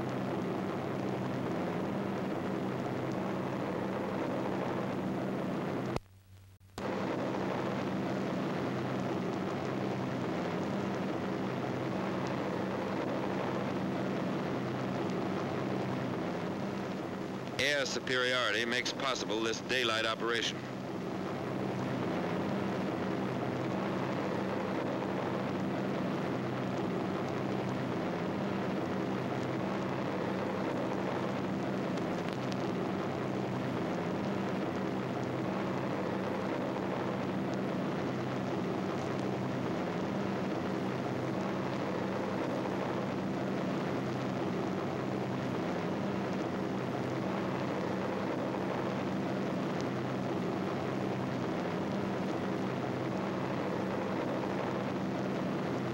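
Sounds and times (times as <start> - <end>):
aircraft engines droning: 6.8 - 55.9.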